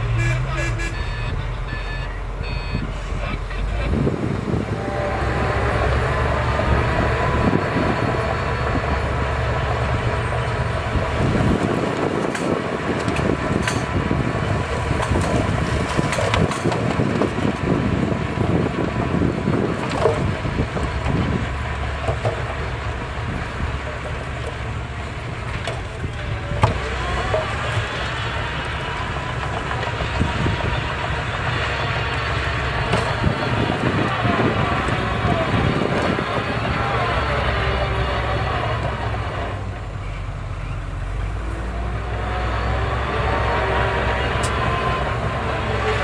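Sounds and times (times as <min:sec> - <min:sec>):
heavy diesel machinery running: 0:00.0 - 0:46.0.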